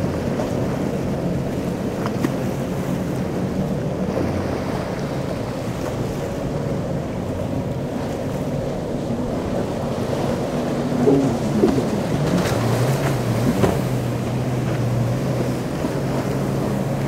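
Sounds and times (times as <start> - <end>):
boat engines droning: 0.0 - 17.0
choppy water: 0.0 - 17.0.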